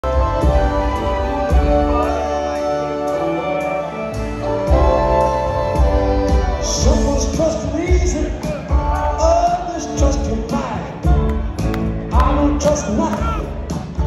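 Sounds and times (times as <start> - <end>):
bass and drums: 0.0 - 2.4, 4.1 - 14.0
rock band held chords: 0.0 - 14.0.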